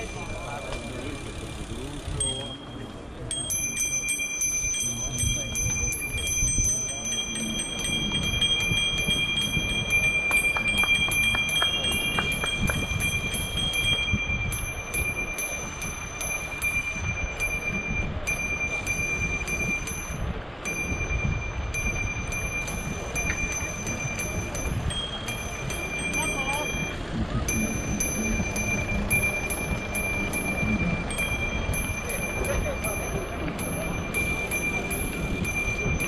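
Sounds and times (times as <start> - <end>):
wind rumbling on microphone: 4.6 - 36.0.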